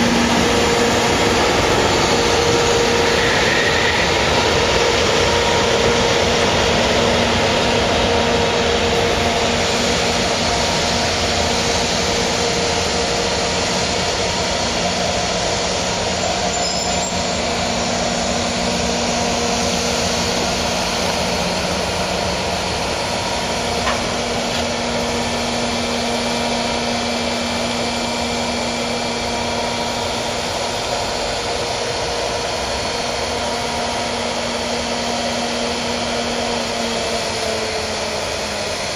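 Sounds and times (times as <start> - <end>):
humming tone: 0.0 - 32.6
freight train rumble: 0.0 - 38.9.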